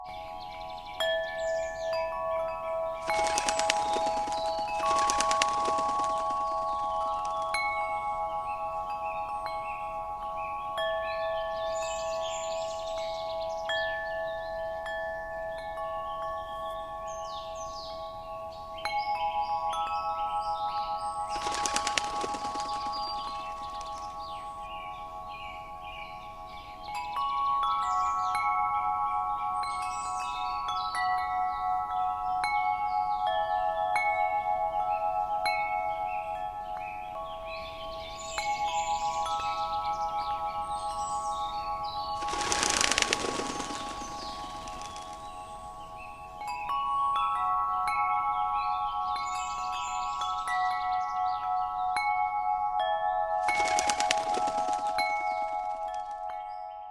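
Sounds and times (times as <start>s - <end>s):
wind chime ringing: 0.0s - 56.9s.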